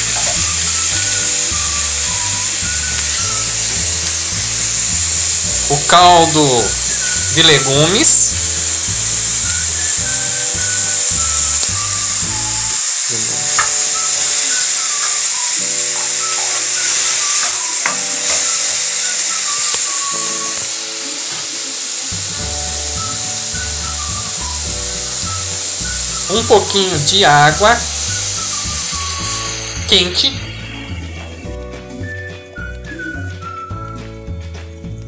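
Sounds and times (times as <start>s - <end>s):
slow background music: 0.0s - 35.0s
vegetables sizzling in a frying pan: 0.0s - 35.0s.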